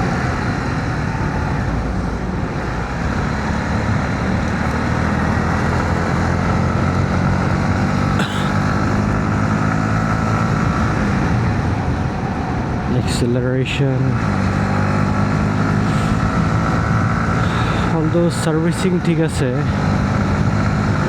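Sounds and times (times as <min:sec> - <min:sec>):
motorcycle engine running: 0:00.0 - 0:13.1, 0:13.7 - 0:21.0
road noise: 0:00.0 - 0:21.0.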